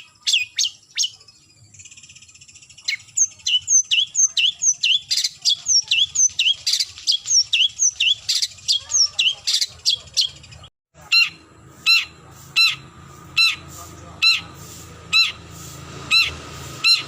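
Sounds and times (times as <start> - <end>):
harsh squawking calls: 2.8 - 17.0.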